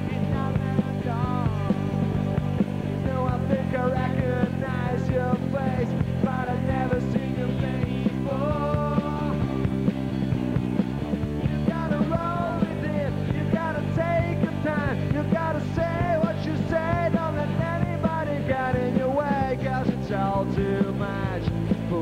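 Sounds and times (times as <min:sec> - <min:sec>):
man singing: 0:00.0 - 0:09.7, 0:11.4 - 0:22.0
bass guitar: 0:00.0 - 0:22.0
drums with cymbals: 0:00.0 - 0:22.0
electric guitar: 0:00.0 - 0:22.0.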